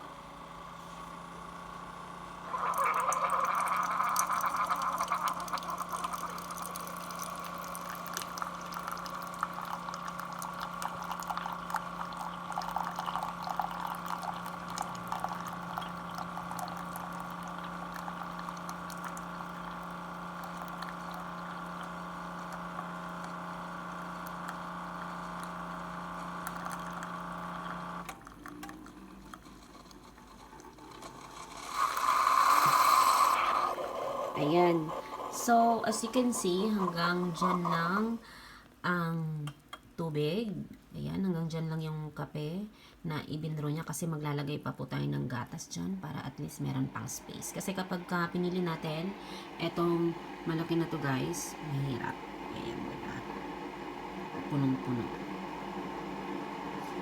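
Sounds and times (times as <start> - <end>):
coffee maker pump humming: 0.0 - 38.7, 45.1 - 57.0
coffee streaming into mug: 2.4 - 38.2, 47.0 - 57.0.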